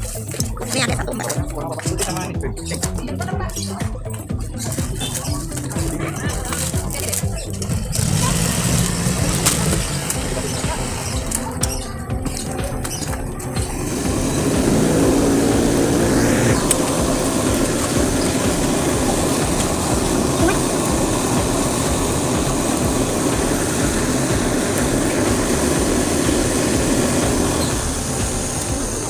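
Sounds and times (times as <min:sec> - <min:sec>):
cotton candy machine whirring: 0:00.0 - 0:29.0.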